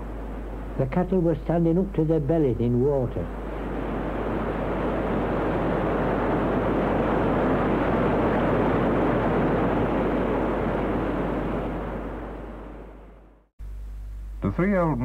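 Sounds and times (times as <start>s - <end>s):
steady rushing noise: 0.0s - 13.5s
low hum: 0.0s - 15.0s.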